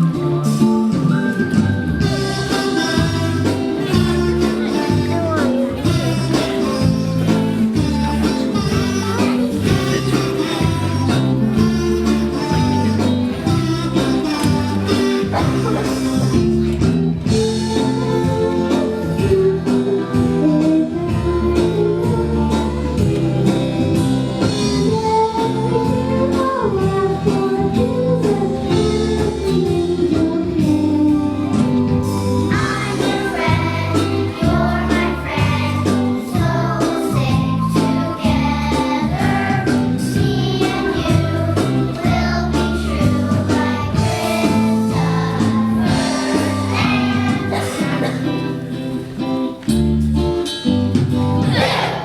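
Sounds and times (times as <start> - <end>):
song with instrumental accompaniment: 0.0 - 52.0.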